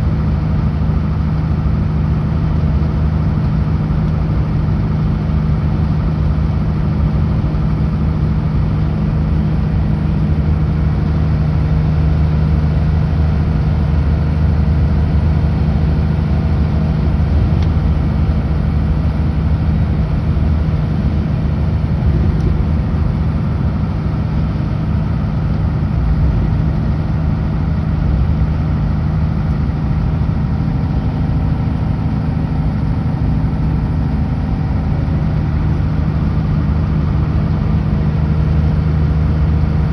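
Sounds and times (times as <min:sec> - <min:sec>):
road noise: 0:00.0 - 0:39.9
truck diesel engine running: 0:00.0 - 0:39.9.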